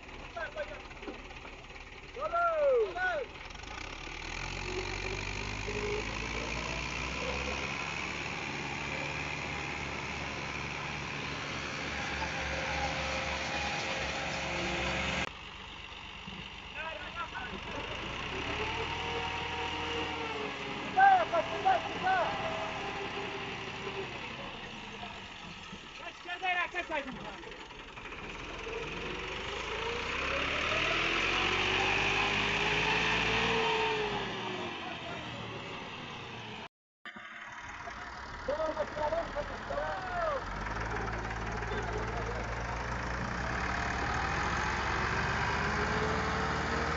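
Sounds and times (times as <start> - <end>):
tractor engine throbbing: 0.0 - 46.9.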